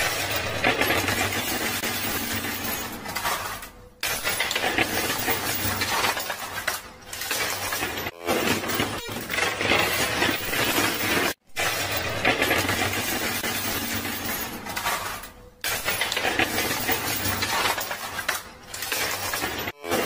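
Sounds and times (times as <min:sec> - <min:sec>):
chips and coins clattering: 0:00.0 - 0:20.0.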